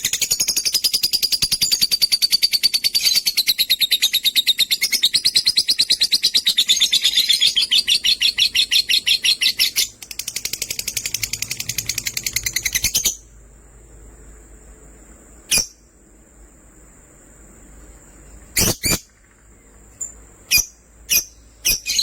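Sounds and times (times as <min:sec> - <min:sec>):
birds chirping: 0:00.0 - 0:14.1, 0:17.6 - 0:22.0.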